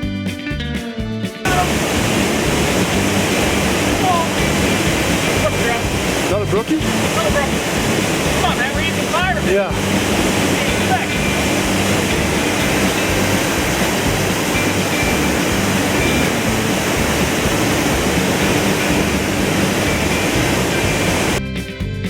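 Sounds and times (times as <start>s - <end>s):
background music beat: 0.0s - 22.0s
guitar music: 0.0s - 22.0s
waterfall rushing: 1.5s - 21.4s.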